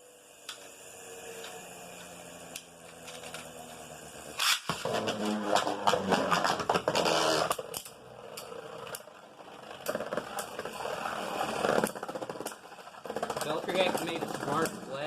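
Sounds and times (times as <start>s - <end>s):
spinning tops clashing and grinding: 0.5s - 15.0s.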